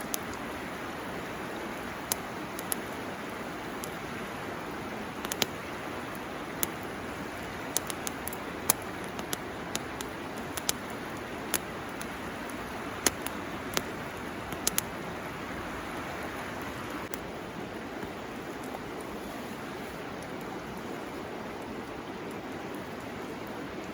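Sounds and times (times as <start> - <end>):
bamboo fire crackling and popping: 0.0 - 23.9
river rushing: 0.0 - 23.9.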